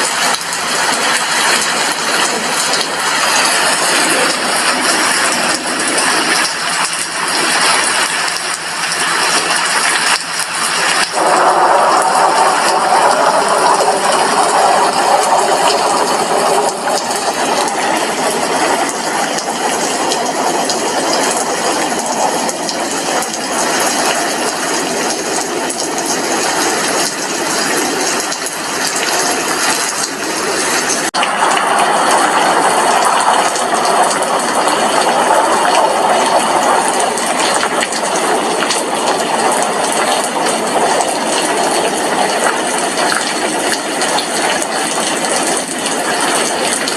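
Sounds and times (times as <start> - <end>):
heavy rain on a glass window: 0.0 - 46.9.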